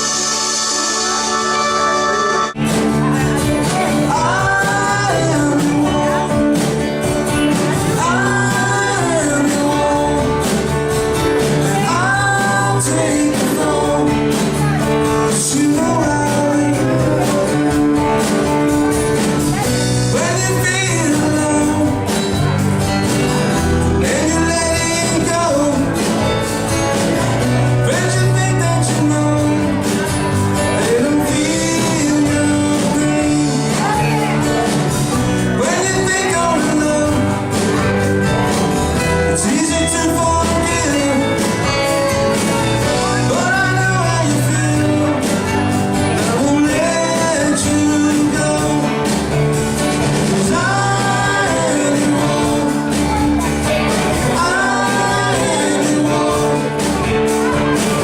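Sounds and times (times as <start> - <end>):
live rock band playing: 0.0 - 58.0
singer's lead vocal: 0.0 - 58.0.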